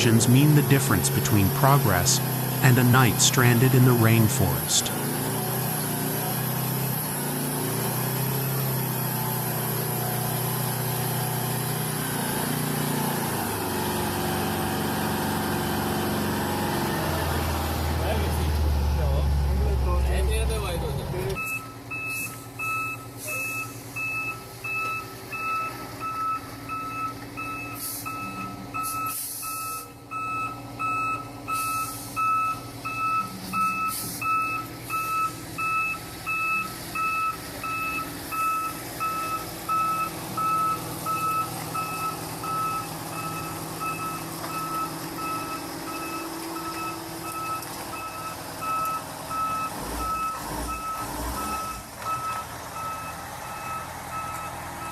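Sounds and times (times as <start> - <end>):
truck reversing alarm beeping: 0.0 - 17.9, 21.3 - 54.9
diesel engine humming: 0.0 - 54.9.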